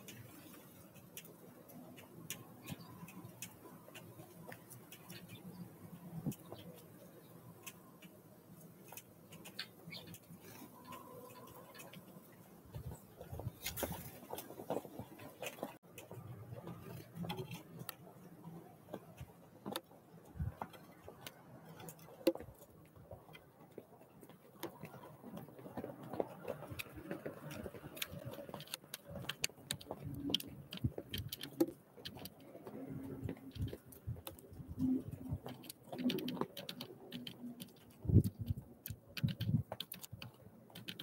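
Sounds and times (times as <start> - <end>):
birds pecking on wooden tray: 0.0 - 41.0.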